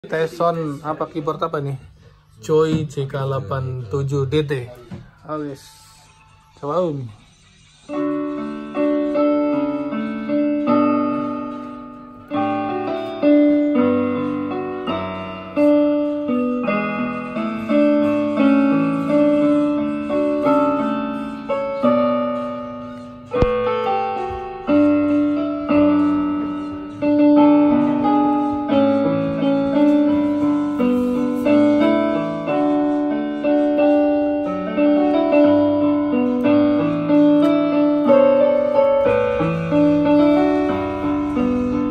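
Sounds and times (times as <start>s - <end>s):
electronic keyboard piano chords: 0.0s - 41.9s.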